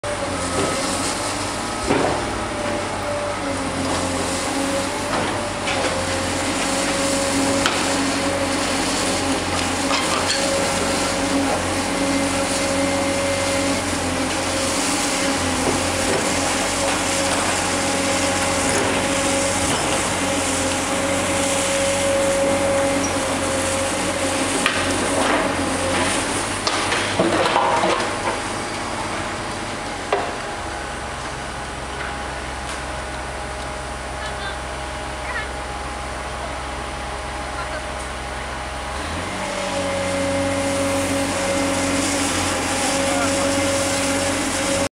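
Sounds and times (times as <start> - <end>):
demolition machine drone and whine: 0.0 - 44.9.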